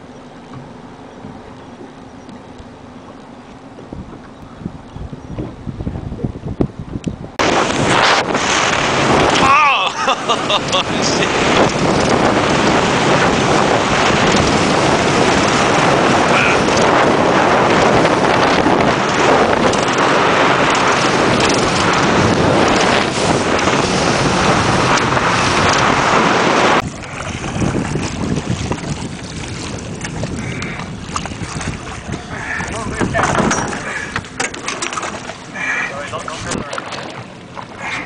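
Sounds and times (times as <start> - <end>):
water rushing past boat: 0.0 - 38.0
wind rushing over microphone: 3.7 - 38.0.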